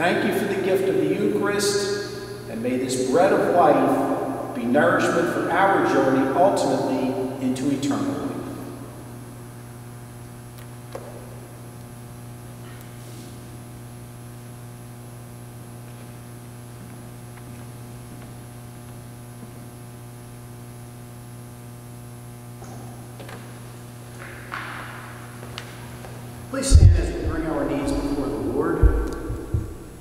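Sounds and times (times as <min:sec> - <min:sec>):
low electrical mains hum: 0:00.0 - 0:30.0.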